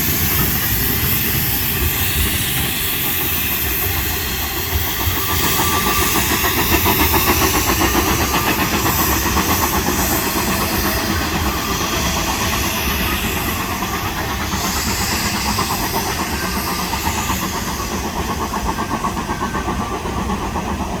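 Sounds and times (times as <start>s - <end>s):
steam train running past: 0.0s - 21.0s.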